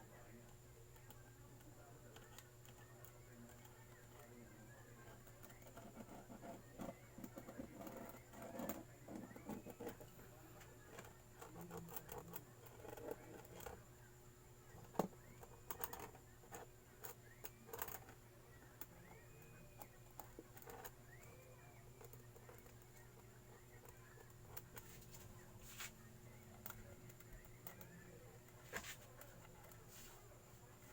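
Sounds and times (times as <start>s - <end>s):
faint clicking and tapping: 0.0s - 30.9s.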